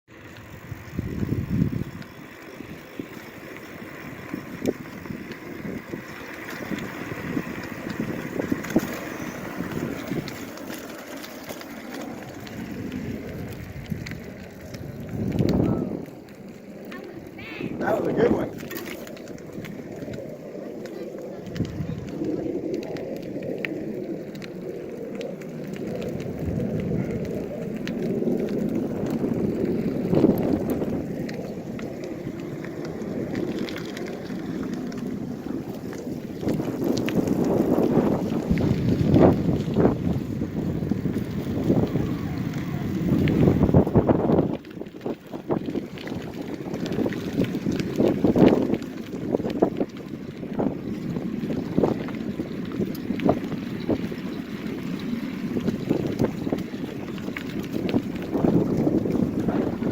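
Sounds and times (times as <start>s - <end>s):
small clicks and ticks: 0.1s - 59.9s
wind buffeting microphone: 0.4s - 59.9s.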